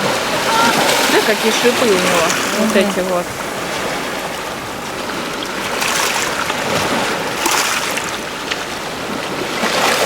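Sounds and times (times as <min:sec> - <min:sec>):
sea waves washing on shore: 0:00.0 - 0:10.0.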